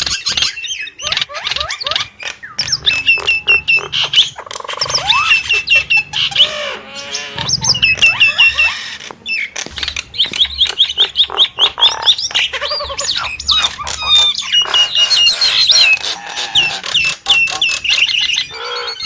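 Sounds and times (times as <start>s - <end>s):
starling whistles and squawks: 0.0s - 19.0s.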